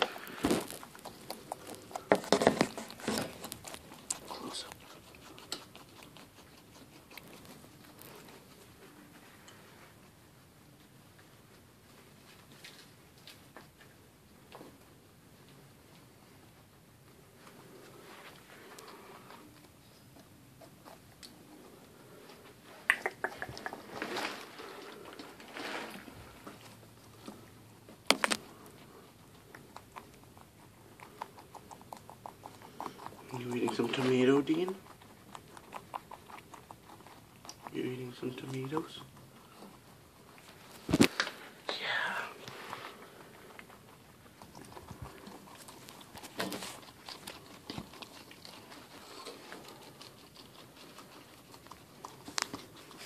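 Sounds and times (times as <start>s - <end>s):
rustling in cage: 0.0s - 22.8s, 23.7s - 29.4s, 38.1s - 53.0s
guinea pig chewing: 0.0s - 41.7s, 42.4s - 53.0s.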